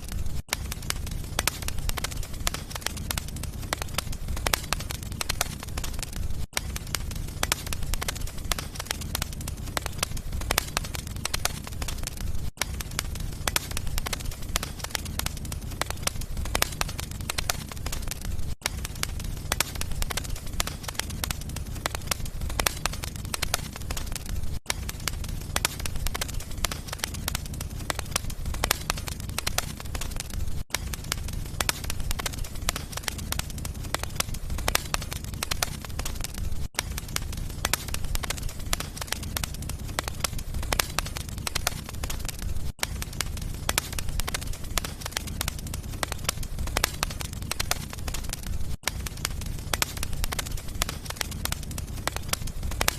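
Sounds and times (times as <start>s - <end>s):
low rumble of flames: 0.0s - 52.9s
wood fire crackling and popping: 0.0s - 52.9s.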